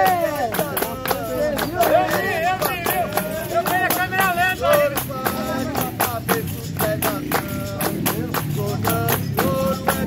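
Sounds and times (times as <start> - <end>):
berimbaus playing: 0.0 - 10.0
group singing: 0.0 - 10.0
hand claps: 0.0 - 10.0
pandeiro playing: 0.0 - 10.0
sharp percussive strikes: 0.0 - 10.0.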